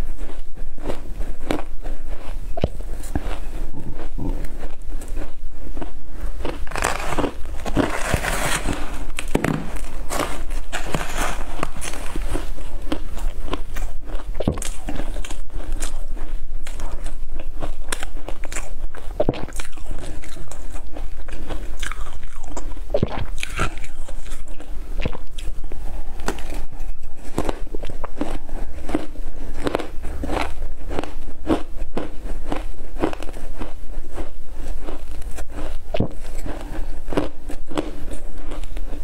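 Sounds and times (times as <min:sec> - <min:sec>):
frost crunching being chewed: 0:00.0 - 0:39.0.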